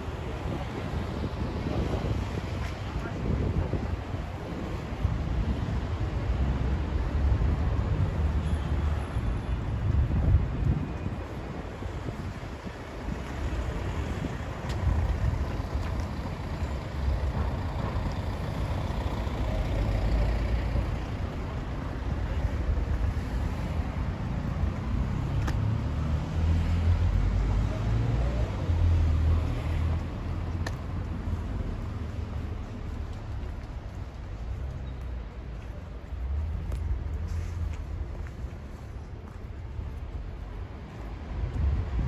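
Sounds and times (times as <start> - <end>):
low rumble of road traffic: 0.0 - 42.0
vehicles passing: 0.0 - 42.0.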